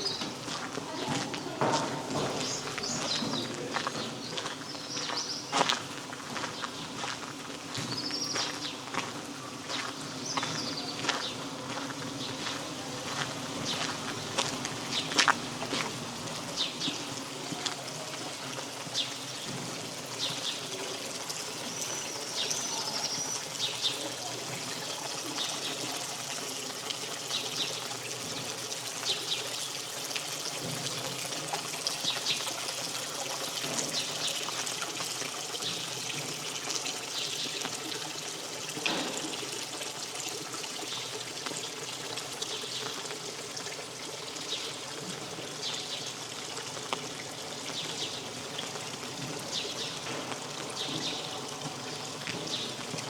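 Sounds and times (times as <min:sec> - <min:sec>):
sharp water drips: 0:00.0 - 0:53.0
steady rain: 0:00.0 - 0:53.0
water trickling and pouring: 0:00.0 - 0:53.0.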